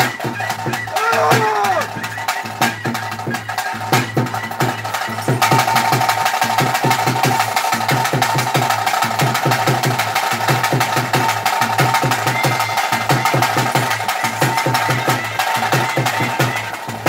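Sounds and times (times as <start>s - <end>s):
fast ritual drumming: 0.0s - 17.0s.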